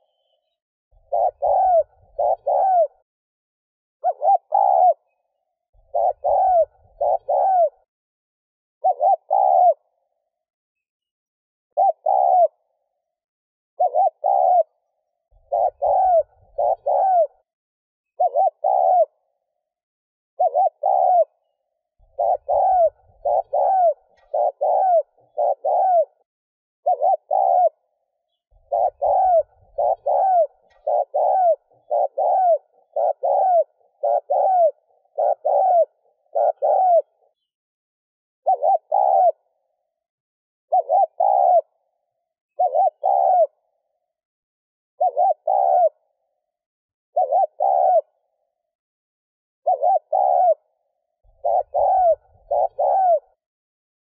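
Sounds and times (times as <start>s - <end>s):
dove cooing: 0.0s - 3.1s, 4.0s - 7.9s, 8.8s - 10.3s, 11.7s - 13.1s, 13.8s - 17.5s, 18.1s - 19.6s, 20.4s - 37.5s, 38.4s - 40.0s, 40.7s - 44.1s, 45.0s - 46.5s, 47.1s - 48.6s, 49.6s - 53.4s.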